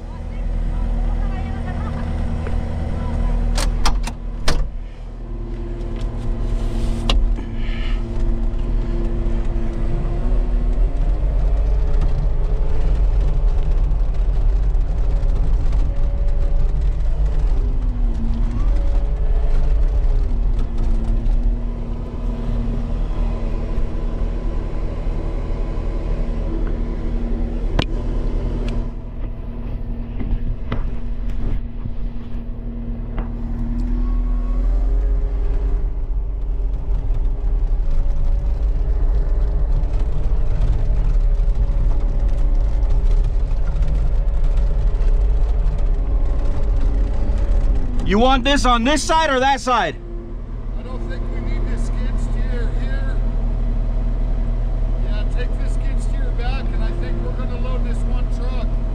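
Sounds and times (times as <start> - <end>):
large vehicle engine rumbling: 0.0 - 58.9.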